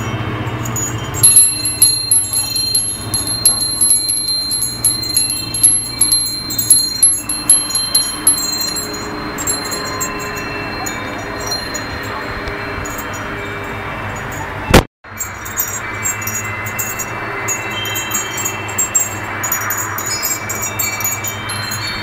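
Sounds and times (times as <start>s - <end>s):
wind chime ringing: 0.5s - 22.0s.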